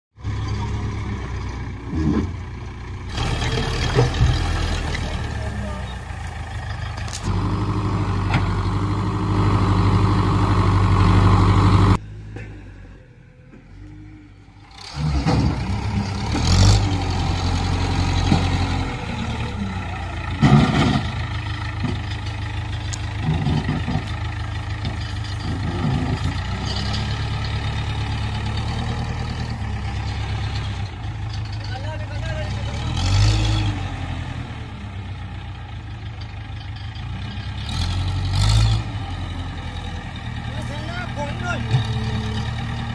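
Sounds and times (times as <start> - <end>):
diesel engine under load: 0.1 - 42.9.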